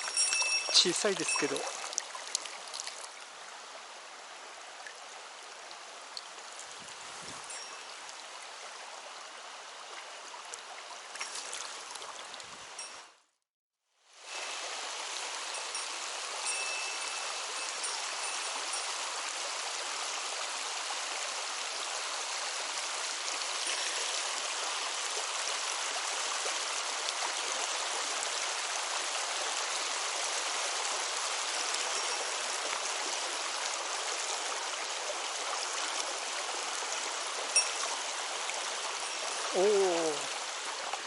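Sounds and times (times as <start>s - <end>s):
mountain stream flowing: 0.0s - 13.2s, 14.1s - 41.0s.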